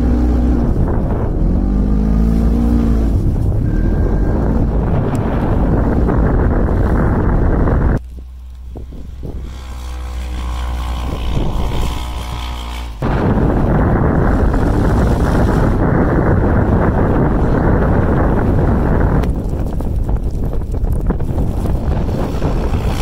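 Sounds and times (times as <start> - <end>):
distant engine revving: 0.0 - 8.0, 9.0 - 19.2, 21.6 - 23.0
wind buffeting microphone: 0.0 - 23.0.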